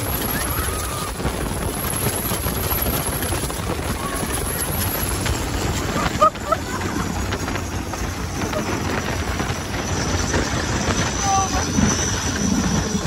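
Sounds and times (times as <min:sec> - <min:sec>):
boat engine roaring: 0:00.0 - 0:13.0
wind and water rush: 0:00.0 - 0:13.0.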